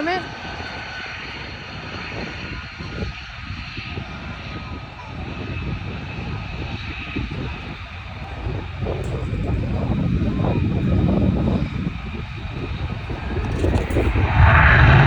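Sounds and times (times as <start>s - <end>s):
faint high whine: 0.0s - 15.0s
jet engines rumbling: 0.0s - 15.0s.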